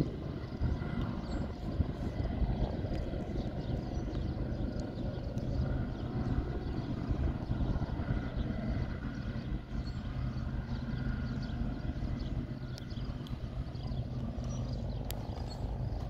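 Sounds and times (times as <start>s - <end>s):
distant freight train rumble: 0.0s - 16.0s.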